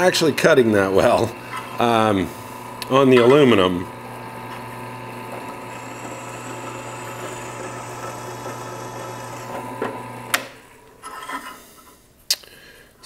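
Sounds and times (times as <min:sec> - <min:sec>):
drill press bit rubbing metal: 0:01.4 - 0:12.0.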